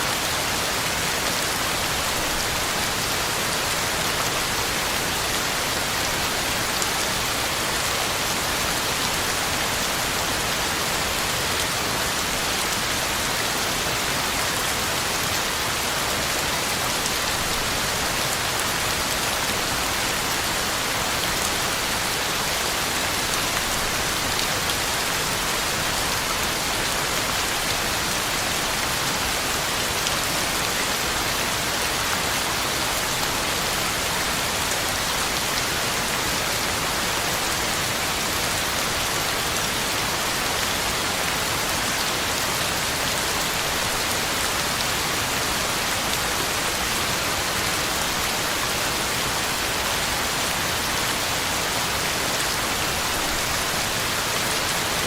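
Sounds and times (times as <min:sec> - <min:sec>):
heavy rain on leaves: 0:00.0 - 0:55.0.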